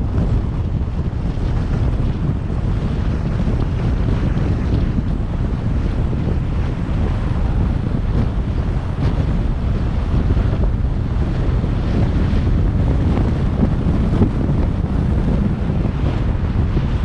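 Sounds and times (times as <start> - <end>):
car road noise: 0.0 - 17.0
wind buffeting microphone: 0.0 - 17.0.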